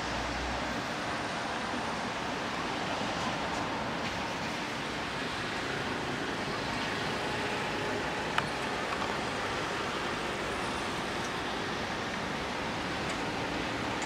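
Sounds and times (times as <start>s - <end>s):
rain: 0.0s - 14.0s
traffic on wet roads: 0.0s - 14.0s.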